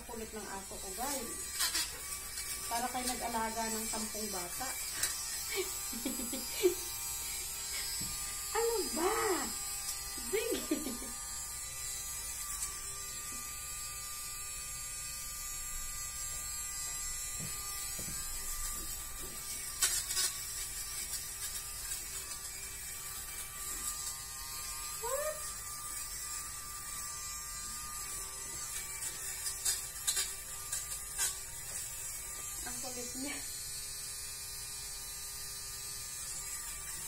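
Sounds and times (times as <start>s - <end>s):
electric lint remover running: 0.0s - 37.0s.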